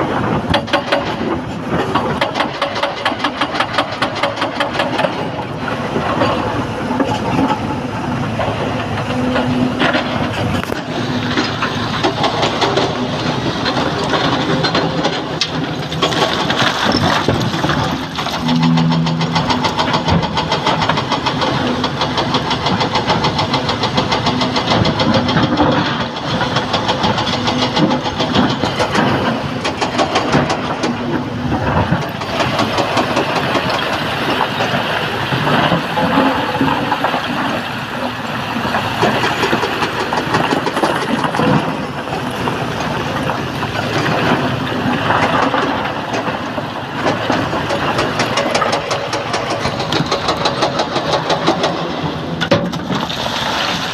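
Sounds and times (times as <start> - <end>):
excavator diesel engine under load: 0.0 - 53.9.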